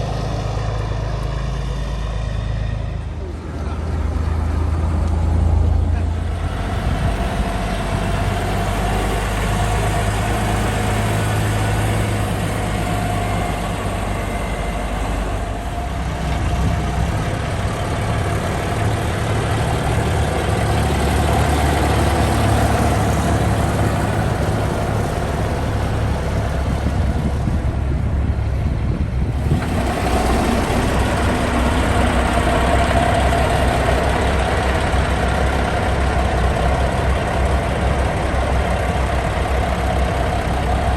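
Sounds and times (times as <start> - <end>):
diesel truck engines running: 0.0 - 40.9.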